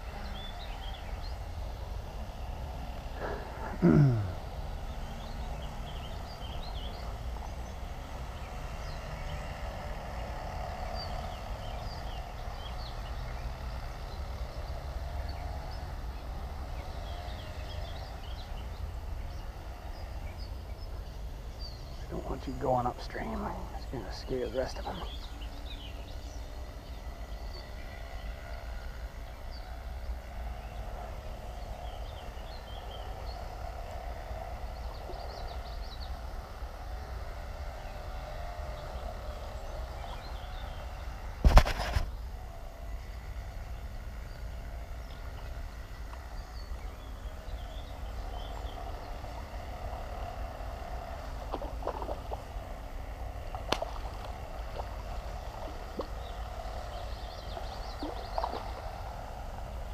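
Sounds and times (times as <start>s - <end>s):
low outdoor rumble: 0.0s - 59.9s.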